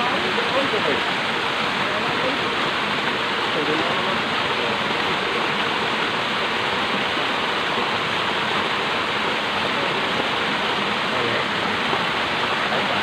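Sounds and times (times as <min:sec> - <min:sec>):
stream rushing over a drop: 0:00.0 - 0:13.0.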